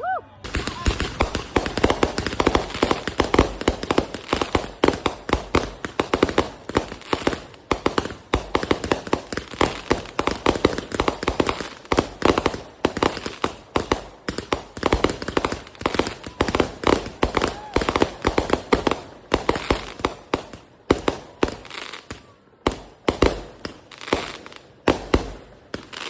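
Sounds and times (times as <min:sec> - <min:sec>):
fireworks cracking and banging: 0:00.4 - 0:26.0.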